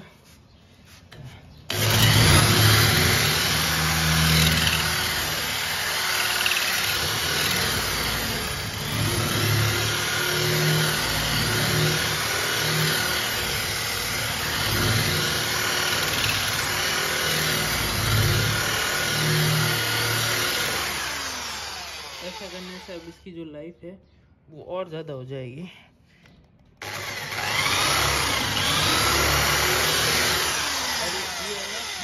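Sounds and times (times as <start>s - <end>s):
electric drill motor hum: 1.7s - 23.2s, 26.8s - 32.0s.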